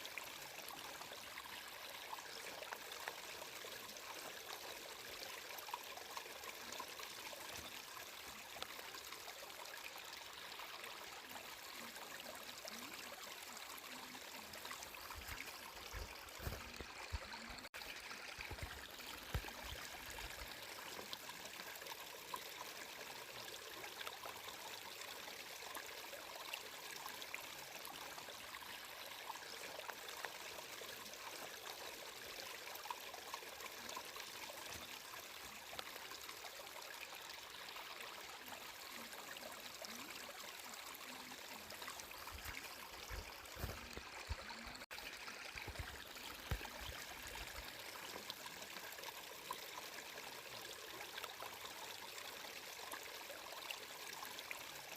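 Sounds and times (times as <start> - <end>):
stream water trickling: 0.0 - 54.9.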